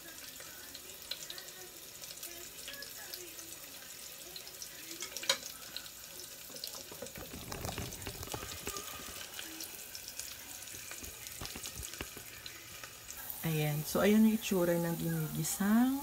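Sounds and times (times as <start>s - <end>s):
onion and garlic sizzling in oil: 0.0s - 16.0s.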